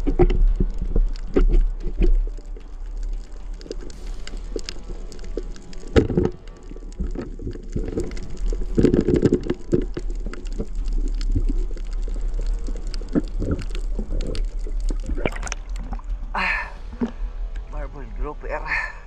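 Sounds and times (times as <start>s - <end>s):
underwater bubbling: 0.0s - 17.7s.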